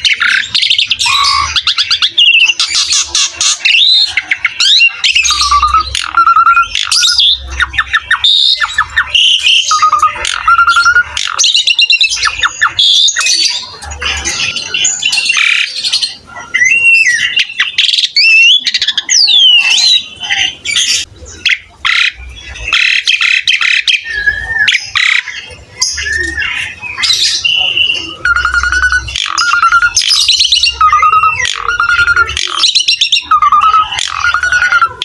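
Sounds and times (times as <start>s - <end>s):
starling singing: 0.0s - 35.0s.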